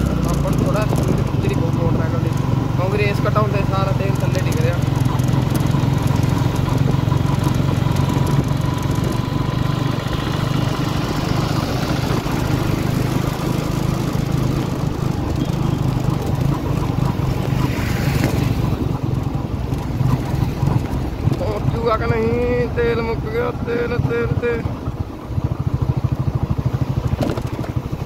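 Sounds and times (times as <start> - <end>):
motorcycle engine at low throttle: 0.0 - 28.0.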